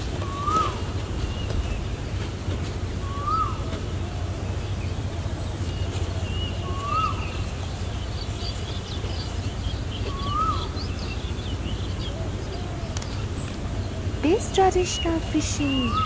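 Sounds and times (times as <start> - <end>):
bird rising and falling call: 0.0 - 16.0
steady low rumble: 0.0 - 16.0
faint high bird chirps: 3.0 - 16.0.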